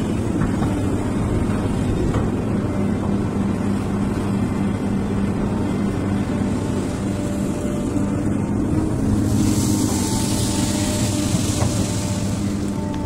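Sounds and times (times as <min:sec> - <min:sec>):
excavator diesel engine humming: 0:00.0 - 0:13.0.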